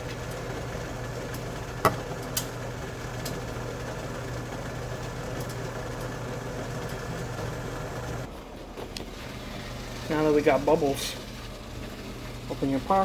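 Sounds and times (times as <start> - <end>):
pot of water heating hiss: 0.0 - 13.0.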